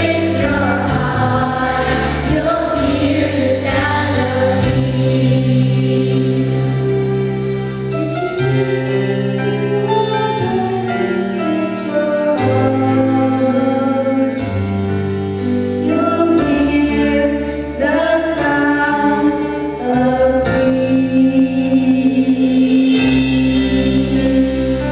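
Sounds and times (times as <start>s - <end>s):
song with sung vocals: 0.0s - 14.5s, 15.8s - 24.9s.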